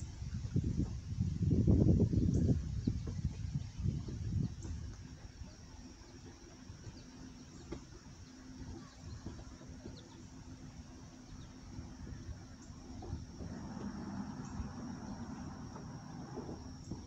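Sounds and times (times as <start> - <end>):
low rumble and hum: 0.0 - 17.0.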